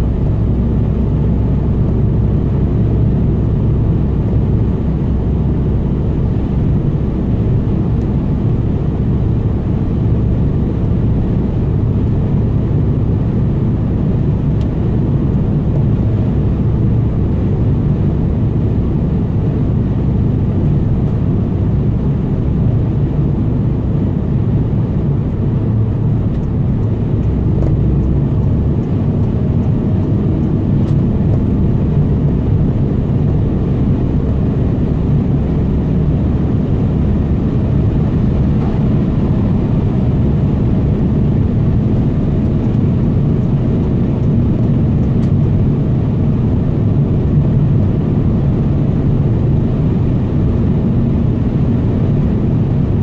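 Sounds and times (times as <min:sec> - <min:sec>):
car interior road rumble: 0:00.0 - 0:53.0.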